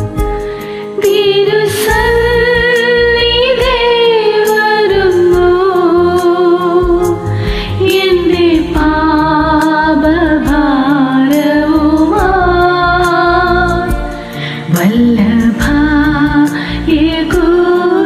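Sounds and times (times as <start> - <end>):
karaoke backing track: 0.0 - 18.0.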